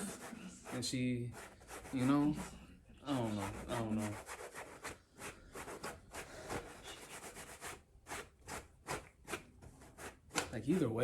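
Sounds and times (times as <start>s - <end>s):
brush scrubbing strokes: 0.0s - 11.0s.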